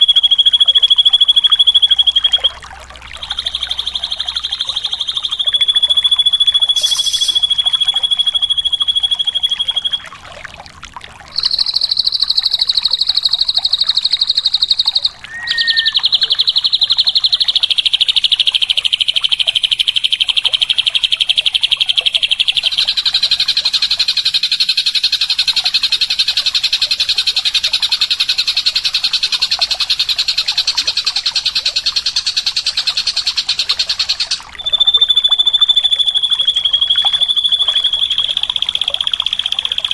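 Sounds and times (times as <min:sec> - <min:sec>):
bird singing buzzy trills: 0:00.0 - 0:10.1, 0:11.3 - 0:26.9, 0:28.2 - 0:39.9.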